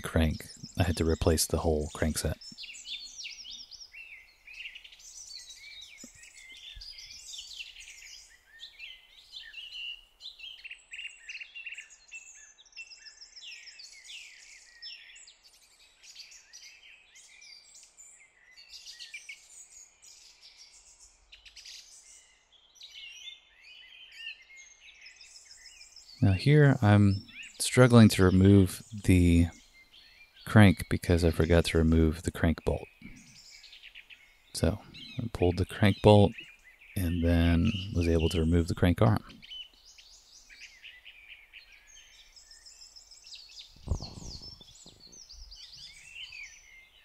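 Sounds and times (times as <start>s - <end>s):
small birds chirping and trilling: 0.0s - 47.0s.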